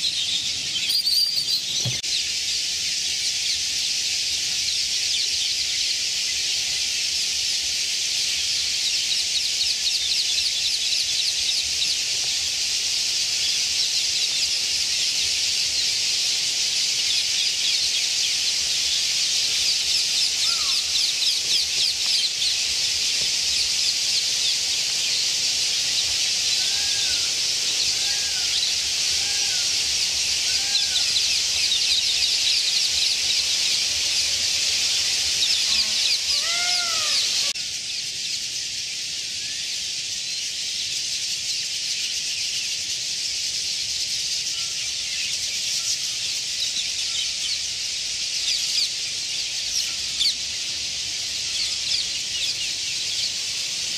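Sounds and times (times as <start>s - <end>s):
flock of birds chattering: 0.0s - 53.9s
lower arching bird calls: 0.0s - 53.9s.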